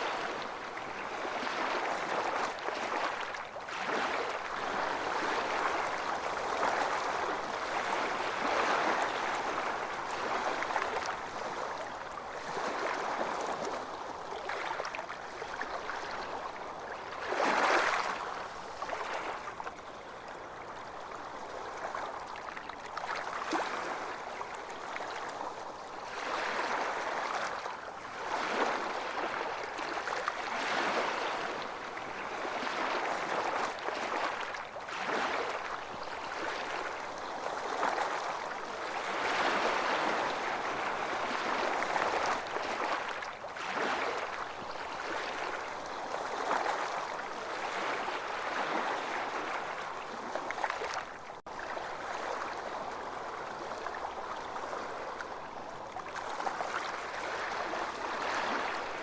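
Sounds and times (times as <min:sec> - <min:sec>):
waves washing onto beach: 0:00.0 - 0:59.0.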